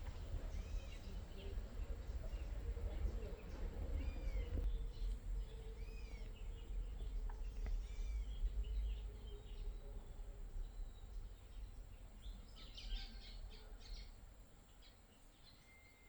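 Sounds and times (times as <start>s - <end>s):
steady low rumble: 0.0s - 14.8s
birds chirping: 0.0s - 16.0s.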